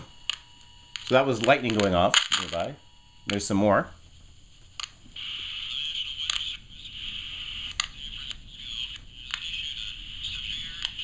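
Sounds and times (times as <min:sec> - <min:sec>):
radio static hiss: 0:00.0 - 0:11.0
sharp static clicks: 0:00.0 - 0:11.0.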